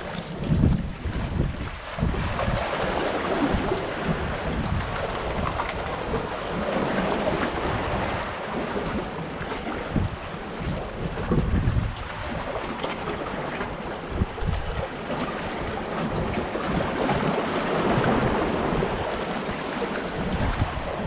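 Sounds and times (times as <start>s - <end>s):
waves splashing over rocks: 0.0s - 21.0s
wind buffeting microphone: 0.0s - 21.0s.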